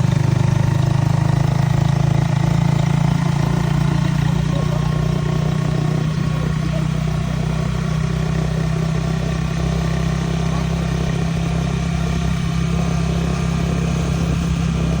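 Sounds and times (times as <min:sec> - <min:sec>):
harvester engine droning: 0:00.0 - 0:15.0.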